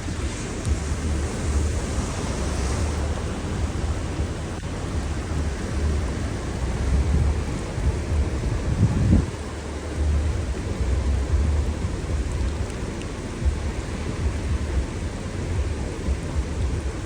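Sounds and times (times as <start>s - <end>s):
rain hissing: 0.0s - 17.0s
wind: 0.0s - 17.0s
wind buffeting microphone: 0.0s - 17.0s.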